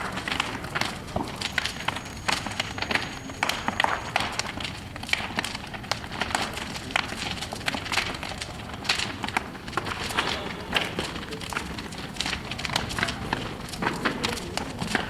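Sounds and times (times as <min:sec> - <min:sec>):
sharp pops and cracks: 0:00.0 - 0:15.0
wood bonfire crackling: 0:00.0 - 0:15.0.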